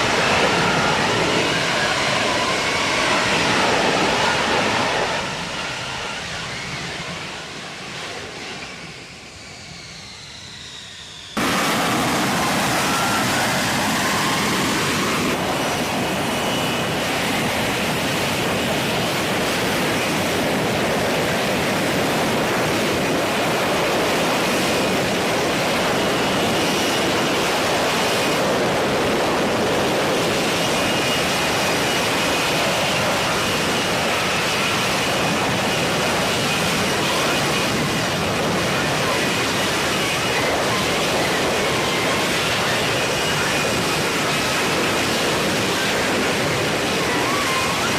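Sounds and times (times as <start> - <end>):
jet engine roar: 0.0 - 47.9.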